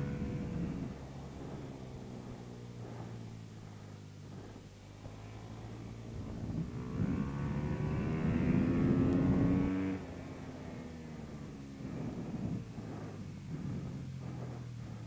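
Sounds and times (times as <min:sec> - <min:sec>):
dirt bike engine accelerating: 0:00.0 - 0:15.0.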